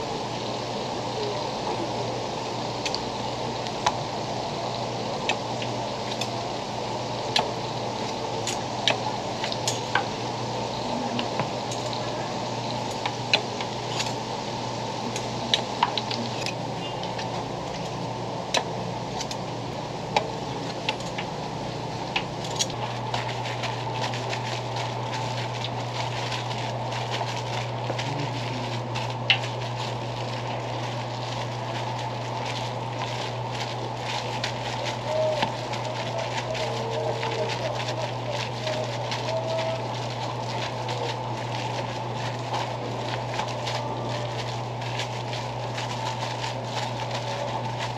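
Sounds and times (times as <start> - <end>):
hot oil sizzling in fryer: 0.0 - 47.9
steady low hum: 0.0 - 47.9
oil pops and crackles: 2.8 - 4.0, 7.2 - 10.3, 11.1 - 14.3, 15.1 - 21.4, 22.0 - 47.9.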